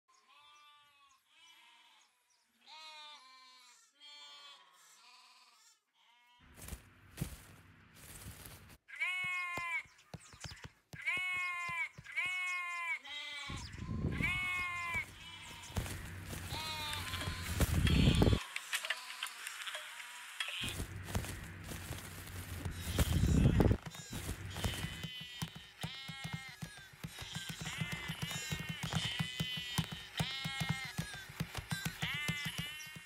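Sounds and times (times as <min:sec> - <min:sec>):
sheep bleating: 0:00.2 - 0:06.6, 0:08.9 - 0:10.0, 0:11.0 - 0:19.4, 0:20.5 - 0:33.0.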